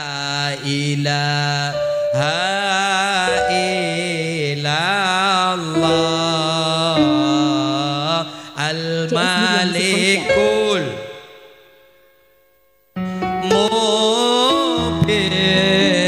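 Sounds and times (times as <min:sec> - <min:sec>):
man singing devotional song: 0:00.0 - 0:11.9, 0:13.2 - 0:16.0.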